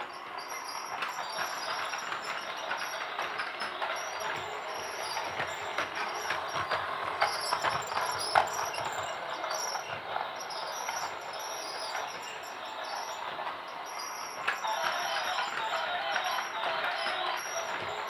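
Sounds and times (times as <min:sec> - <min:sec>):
toy train clicks: 0:00.0 - 0:18.0
toy train rattling: 0:00.0 - 0:18.0.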